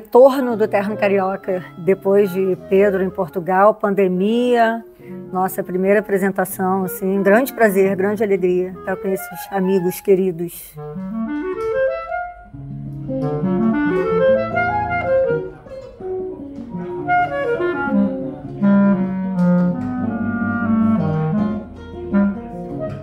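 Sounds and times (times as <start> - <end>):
clarinet melody: 0.0 - 23.0
nylon-string guitar: 0.0 - 23.0.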